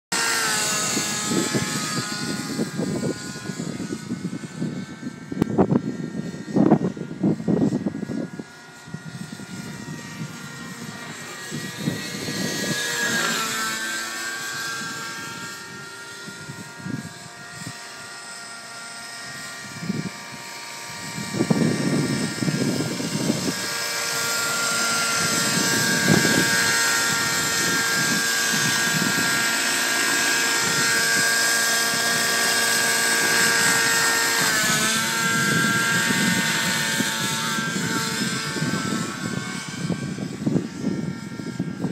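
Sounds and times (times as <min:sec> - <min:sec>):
model helicopter engine whining: 0:00.1 - 0:41.9
wind rumbling on microphone: 0:00.1 - 0:41.9.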